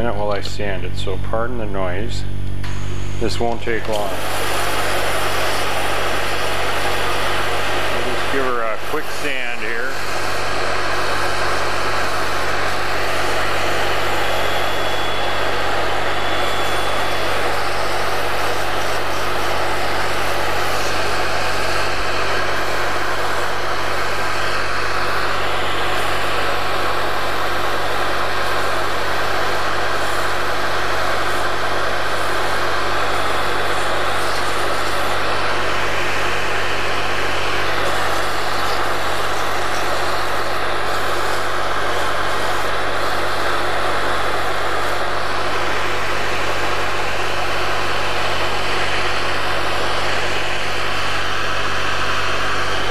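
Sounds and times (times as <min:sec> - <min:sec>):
dust collector air rush: 0:00.0 - 0:52.9.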